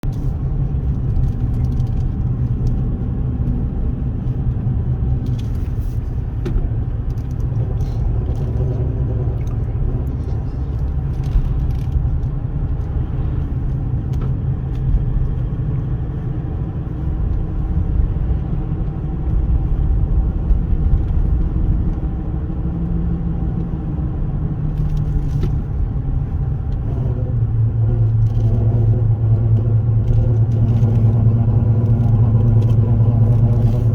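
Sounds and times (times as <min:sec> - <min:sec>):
low rumbling grind: 0:00.0 - 0:33.9.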